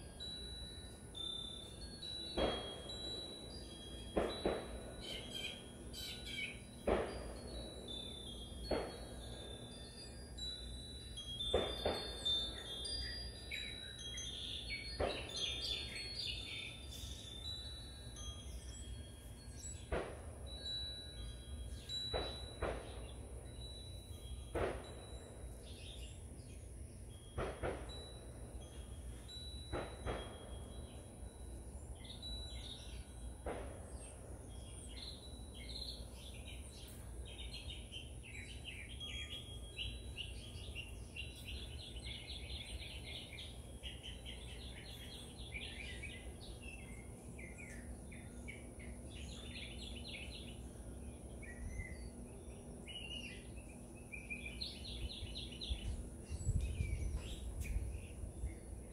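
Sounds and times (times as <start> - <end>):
birds chirping: 0.0 - 58.9
wind chimes ringing: 0.0 - 58.9.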